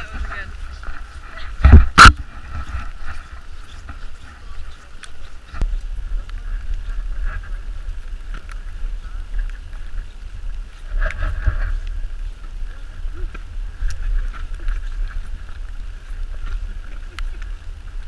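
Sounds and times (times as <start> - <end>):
wind rumbling on the microphone: 0.0 - 18.0.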